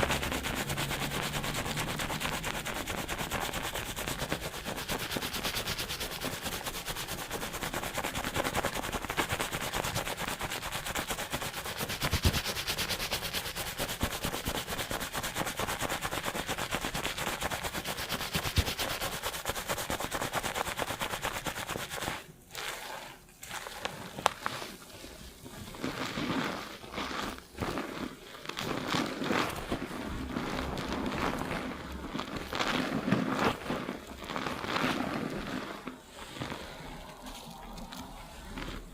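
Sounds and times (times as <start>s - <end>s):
fingers scrubbing lathered hair: 0.0s - 38.9s.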